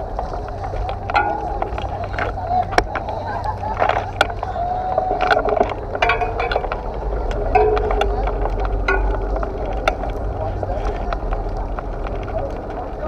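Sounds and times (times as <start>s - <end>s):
crowd talking: 0.0s - 13.0s
steady low rumble: 0.0s - 13.0s.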